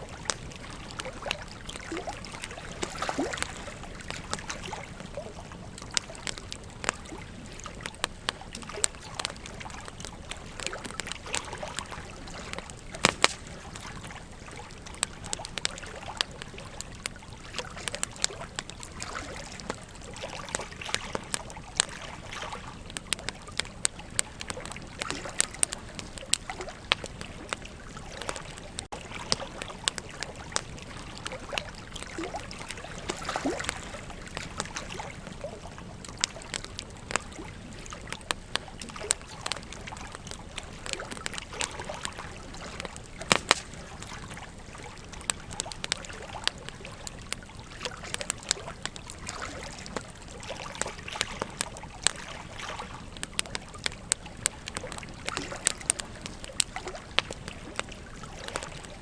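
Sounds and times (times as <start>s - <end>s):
campfire crackling and popping: 0.0s - 59.0s
river water flowing: 0.0s - 59.0s.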